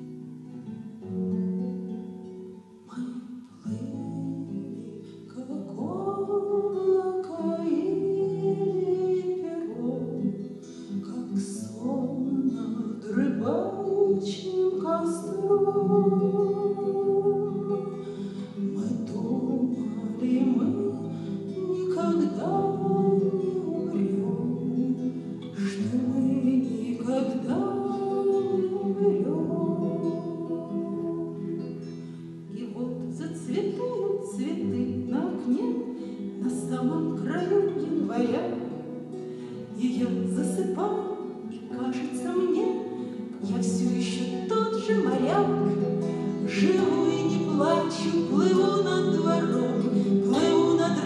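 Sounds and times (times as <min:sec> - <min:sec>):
classical guitar strummed chords: 0:00.0 - 0:51.0
woman singing: 0:02.4 - 0:51.0.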